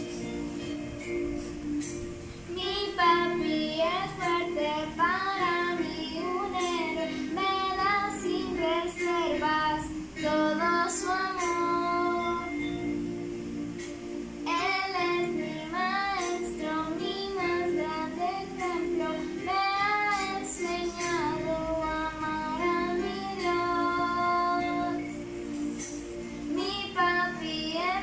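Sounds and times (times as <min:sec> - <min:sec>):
musical accompaniment: 0:00.0 - 0:28.0
girl singing: 0:02.4 - 0:12.9, 0:14.4 - 0:25.3, 0:26.5 - 0:28.0.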